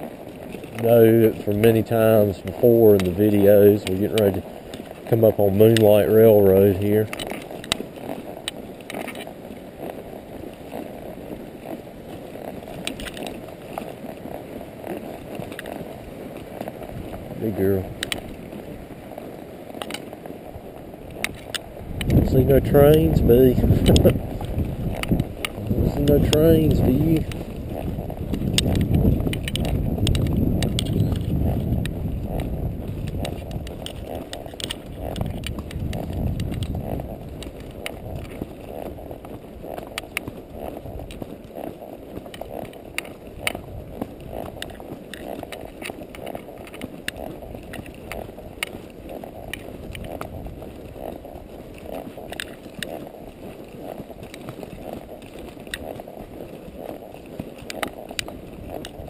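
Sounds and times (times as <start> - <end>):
horse hoof steps: 0.0 - 59.0
wind rumbling on microphone: 0.0 - 59.0.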